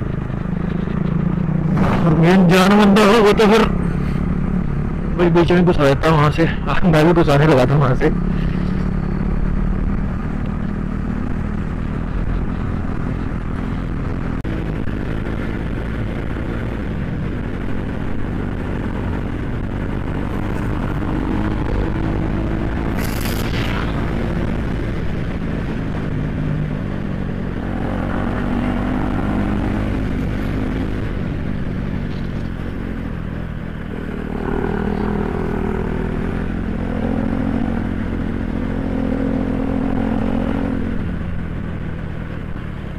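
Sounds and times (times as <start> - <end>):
motorcycle engine running: 0.0 - 42.9
road noise: 0.0 - 42.9
wind noise: 8.2 - 42.9.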